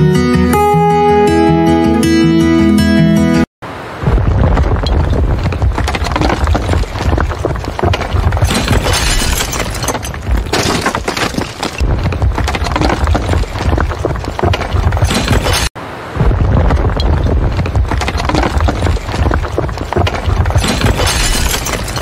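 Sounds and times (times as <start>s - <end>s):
deep rumble of falling masonry: 4.0s - 22.0s
debris cracking and shattering: 4.1s - 22.0s.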